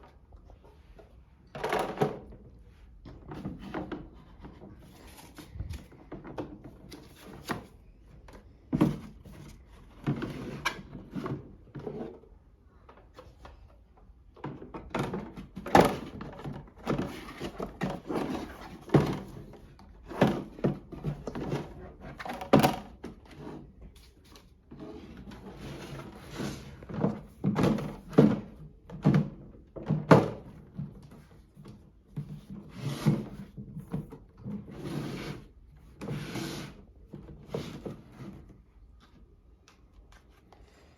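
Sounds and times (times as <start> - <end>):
toy washing machine being handled: 0.0 - 39.2.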